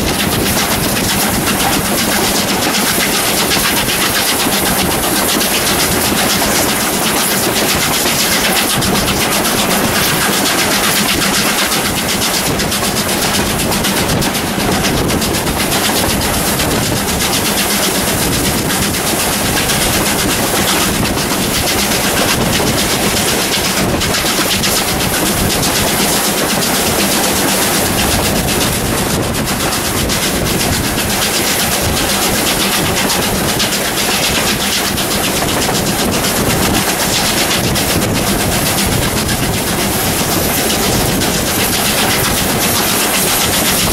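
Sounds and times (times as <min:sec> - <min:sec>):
steam locomotive running: 0:00.0 - 0:43.9
wheels rolling on rails: 0:00.0 - 0:43.9.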